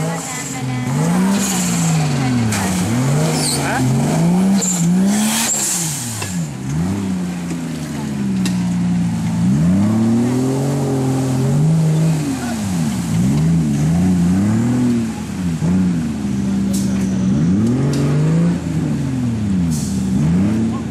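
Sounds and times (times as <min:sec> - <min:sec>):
off-road vehicle engine revving: 0:00.0 - 0:20.9
tyres churning through mud: 0:00.0 - 0:20.9.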